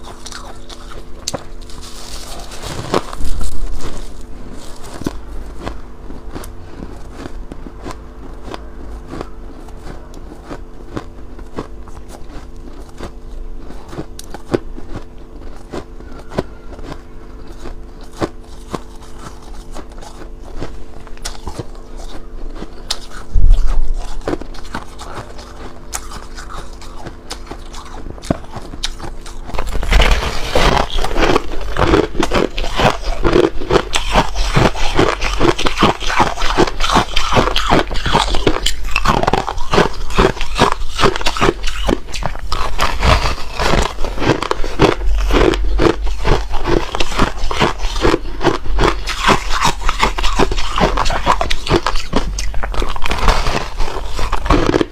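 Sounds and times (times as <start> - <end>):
ice being chewed: 0.0 - 54.9
low steady hum: 0.0 - 54.9.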